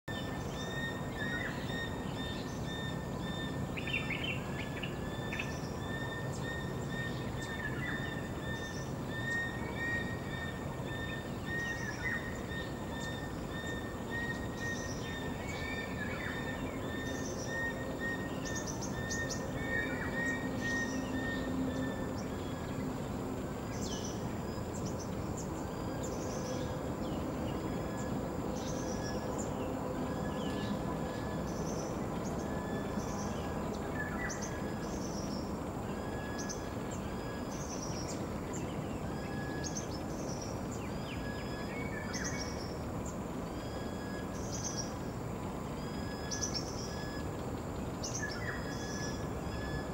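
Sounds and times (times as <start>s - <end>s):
birds chirping: 0.0s - 49.9s
steady outdoor hiss: 0.1s - 49.9s.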